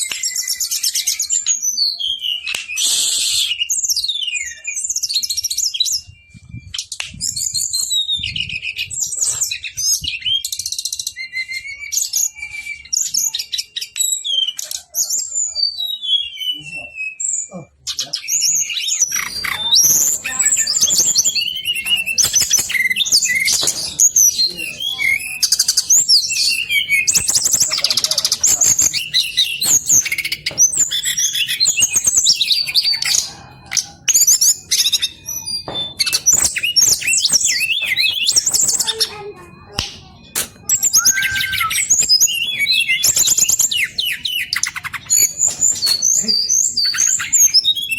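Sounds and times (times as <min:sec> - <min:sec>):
bird singing whistles and trills: 0:00.0 - 0:47.9.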